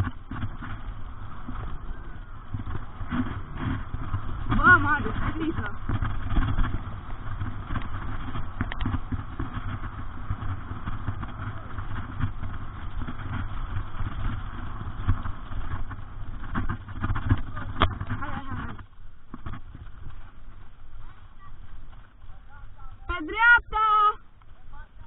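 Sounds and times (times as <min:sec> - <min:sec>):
mountain bike rattling on trail: 0:00.0 - 0:25.0
wind buffeting microphone: 0:00.0 - 0:25.0.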